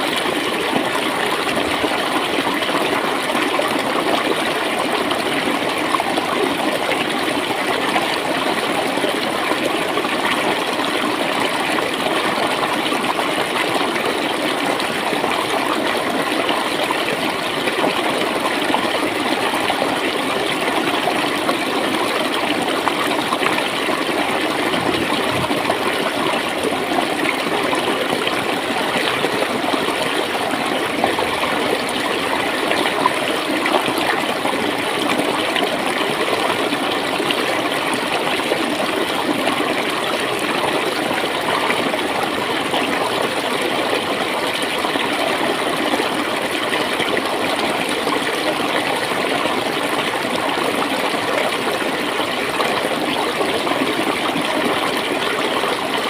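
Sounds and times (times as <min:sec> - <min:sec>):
stream gurgling over stones: 0:00.0 - 0:56.0.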